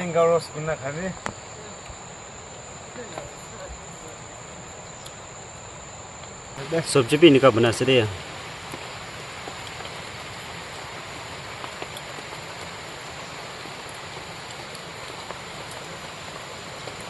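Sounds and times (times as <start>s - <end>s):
rain falling: 0.0s - 17.0s
raindrops ticking on surfaces: 0.0s - 17.0s.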